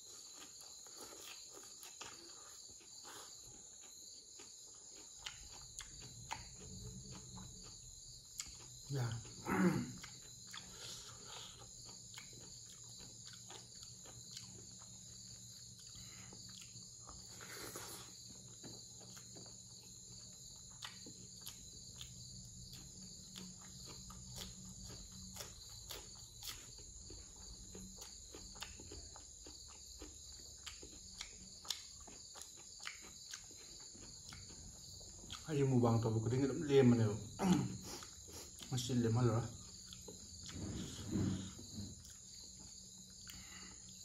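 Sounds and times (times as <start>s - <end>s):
insects chirring: 0.0s - 44.0s
man chewing food: 0.0s - 44.0s.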